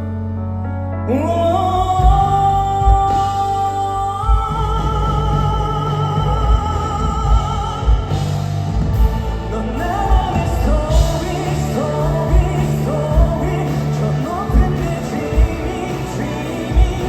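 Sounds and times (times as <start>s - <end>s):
live pop band: 0.0s - 17.0s
drums and bass: 1.2s - 17.0s.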